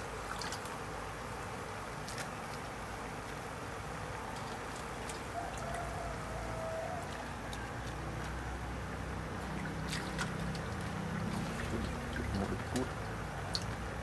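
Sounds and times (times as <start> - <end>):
leaves clicking and rustling in a pot: 0.0 - 0.8, 2.0 - 3.4, 4.1 - 8.7, 9.3 - 14.0.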